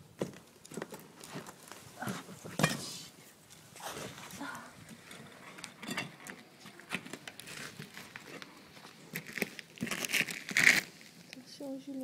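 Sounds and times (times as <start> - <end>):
scraping and rustling on plaster: 0.8 - 11.4.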